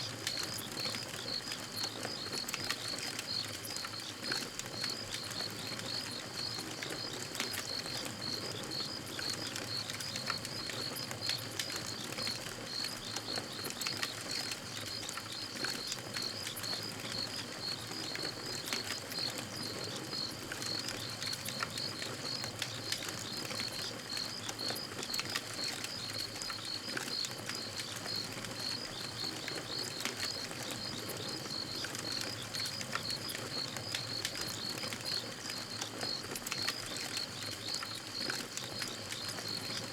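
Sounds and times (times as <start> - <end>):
campfire crackling and popping: 0.2 - 39.9.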